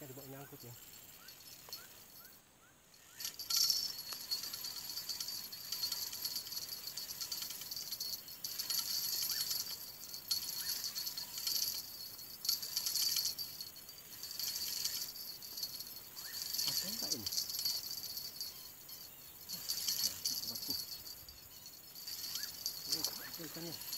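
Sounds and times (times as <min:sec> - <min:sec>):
fishing reel rattling ticks: 0:03.0 - 0:23.9.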